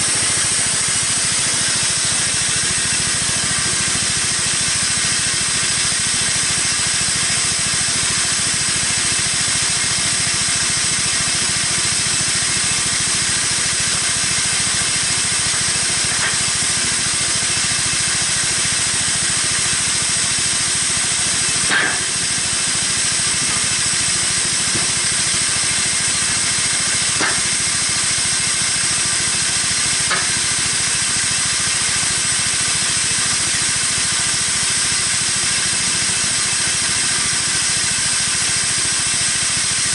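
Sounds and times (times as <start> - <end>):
saw blade hissing through wood: 0.0 - 7.9, 11.5 - 39.8
motor drone: 0.0 - 39.9.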